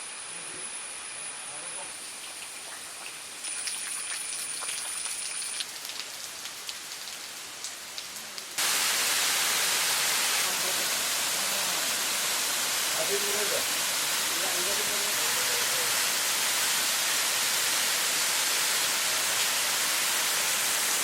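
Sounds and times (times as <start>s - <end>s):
hiss of running water: 1.8s - 21.0s.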